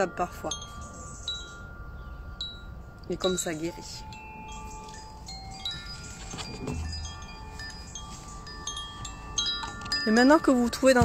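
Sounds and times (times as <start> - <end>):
wooden tube chime ringing: 0.0 - 11.0.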